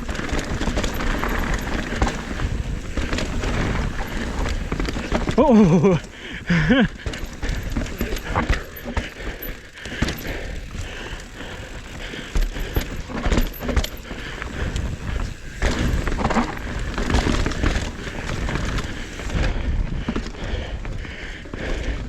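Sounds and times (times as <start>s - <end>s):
bike chain and frame clattering: 0.0s - 19.6s
tyres rumbling on dirt: 0.0s - 20.3s.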